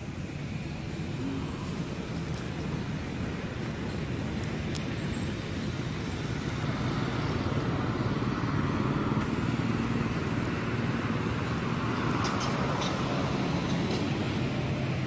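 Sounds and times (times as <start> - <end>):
motor vehicle engine running: 0.0 - 15.0.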